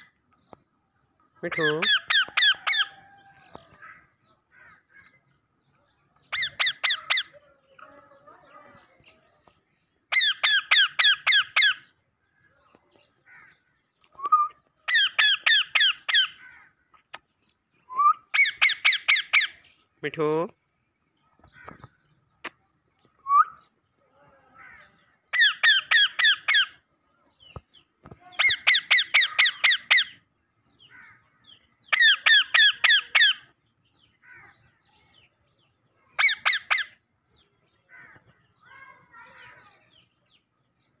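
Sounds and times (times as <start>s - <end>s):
soft parakeet chatter: 1.2s - 17.4s, 21.2s - 40.6s
parakeets calling shrilly: 1.4s - 5.3s, 6.2s - 9.4s, 10.0s - 12.0s, 13.1s - 17.3s, 17.9s - 20.1s, 21.4s - 40.5s.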